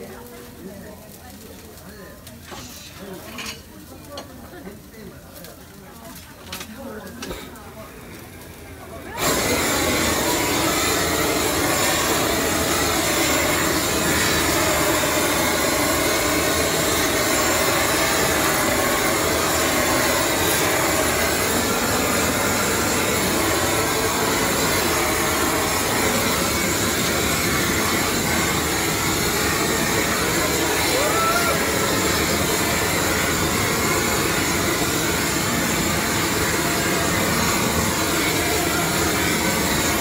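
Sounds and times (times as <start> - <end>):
gas torch rushing hiss: 0.0 - 6.1, 6.7 - 40.0.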